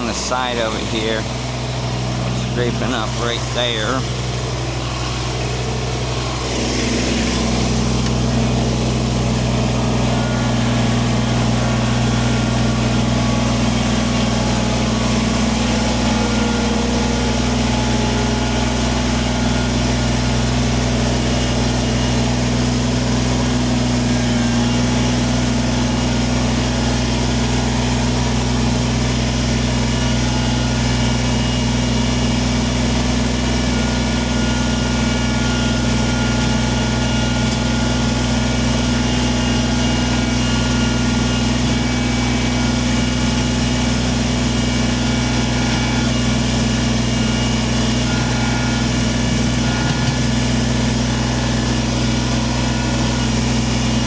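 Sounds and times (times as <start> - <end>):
loader scraping stone: 0.0 - 54.0
tractor diesel engine running: 0.0 - 54.0.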